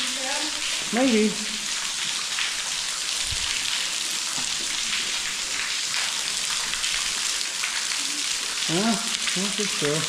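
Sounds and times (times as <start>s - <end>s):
waterfall splashing: 0.0s - 10.0s.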